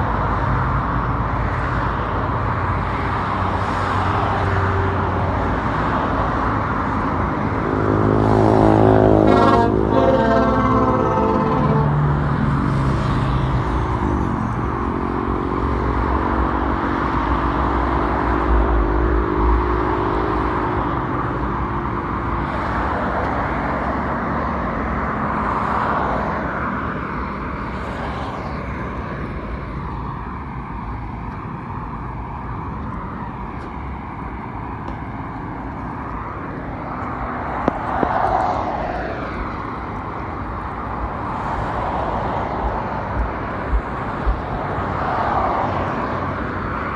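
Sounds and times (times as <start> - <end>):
cars passing with tyre roar: 0.0 - 46.9
vehicle engine drone: 0.0 - 46.9.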